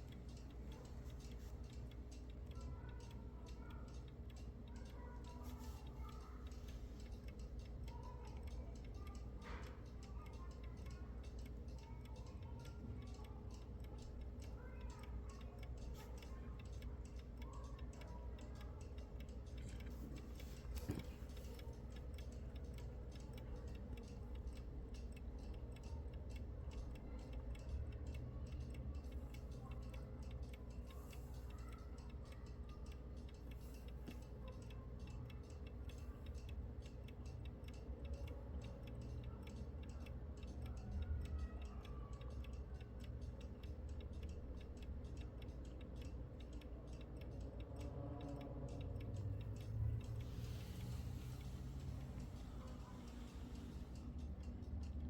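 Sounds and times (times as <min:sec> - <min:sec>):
faint steady hum: 0:00.0 - 0:55.0
mechanical alarm clock ticking: 0:00.0 - 0:55.0.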